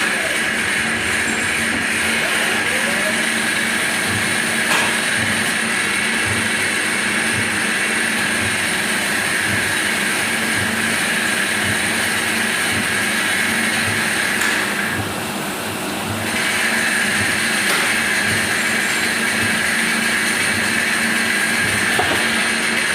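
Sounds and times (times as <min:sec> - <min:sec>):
machine whirring and humming: 0:00.0 - 0:22.9.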